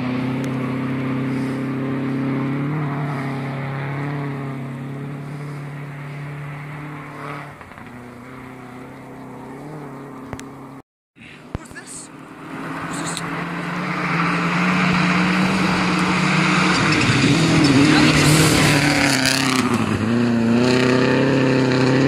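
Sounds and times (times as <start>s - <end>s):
rally car engine running hard: 0.0s - 10.8s, 12.2s - 22.0s.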